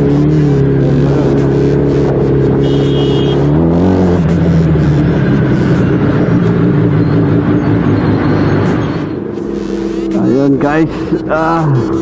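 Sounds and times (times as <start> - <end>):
motorcycle engine revving: 0.0 - 12.0
wind and road noise: 0.0 - 12.0.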